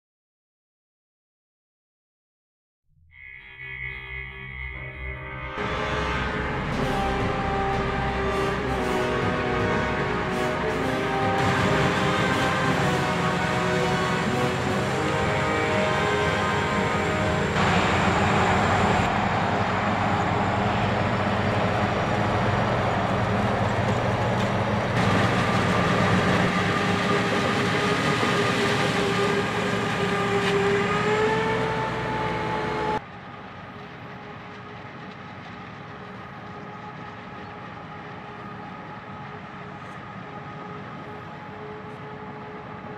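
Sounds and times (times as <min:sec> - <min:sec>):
heavy diesel machinery running: 0:04.2 - 0:42.9.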